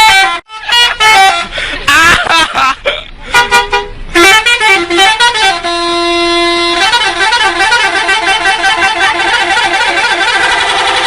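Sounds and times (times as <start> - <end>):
multi-tone air horn melody: 0.0 - 1.6, 3.3 - 11.0.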